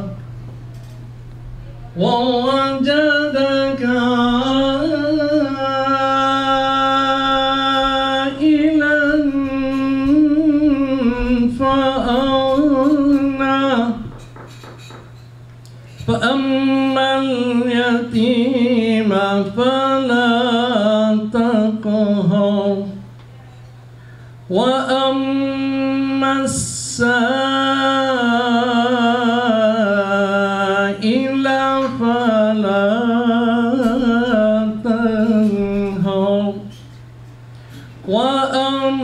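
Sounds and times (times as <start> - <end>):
low electrical hum: 0.0 - 39.0
man chanting recitation: 1.8 - 14.2, 16.0 - 23.0, 24.5 - 36.7, 38.0 - 39.0.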